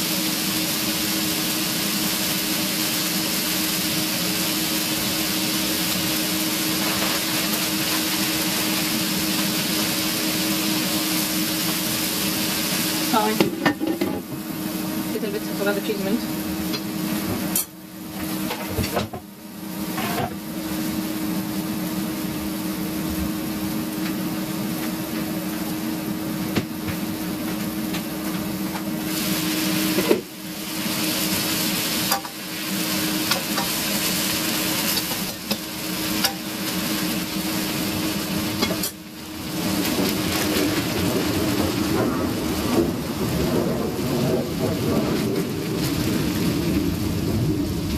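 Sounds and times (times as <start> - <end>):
food sizzling in a pan: 0.0 - 44.0.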